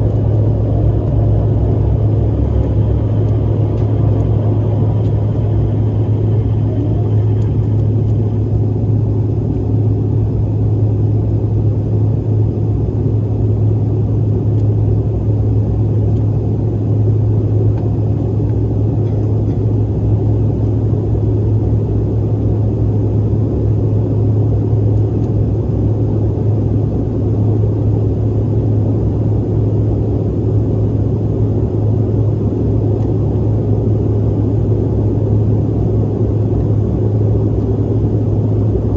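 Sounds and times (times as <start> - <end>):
jet airliner cabin rumble: 0.0 - 38.9.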